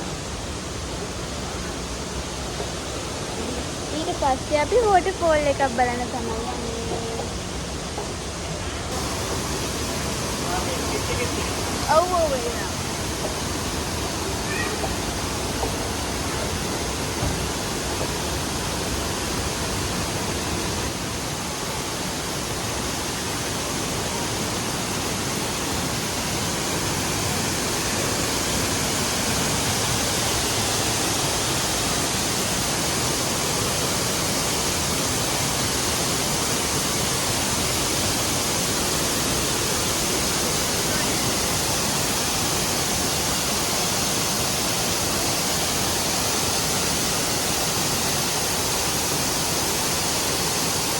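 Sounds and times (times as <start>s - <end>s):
waterfall pouring: 8.9s - 50.9s.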